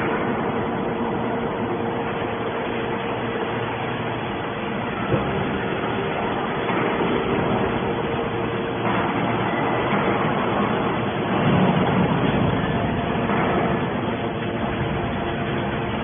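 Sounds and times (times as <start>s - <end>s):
baling machinery drone: 0.0s - 16.0s.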